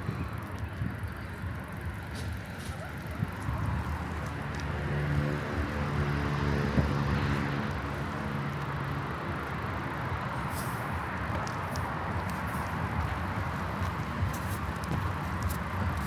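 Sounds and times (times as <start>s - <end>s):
wind noise on microphone: 0.0s - 8.1s, 8.9s - 16.0s
bicycle tyres rolling: 0.0s - 16.0s.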